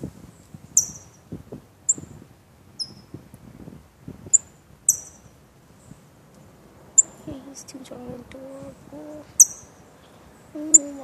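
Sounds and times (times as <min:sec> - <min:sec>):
songbird chirping: 0:00.0 - 0:03.3, 0:04.2 - 0:11.0.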